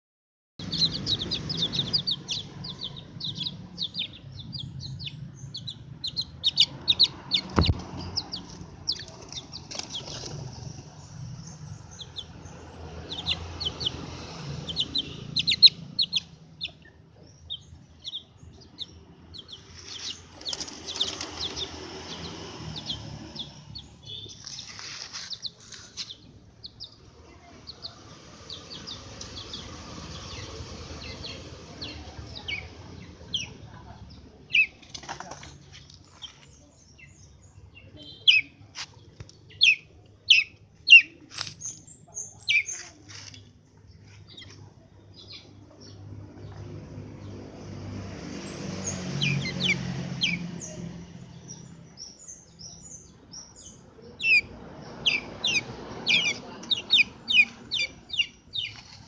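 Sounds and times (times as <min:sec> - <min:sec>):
birds chirping: 0:00.6 - 0:59.0.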